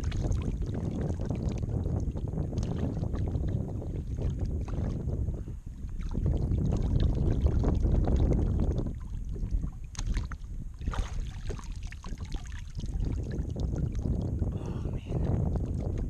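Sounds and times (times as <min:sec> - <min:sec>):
water splashing and dripping: 0:00.0 - 0:05.0, 0:05.8 - 0:14.4
wind buffeting microphone: 0:00.0 - 0:16.0.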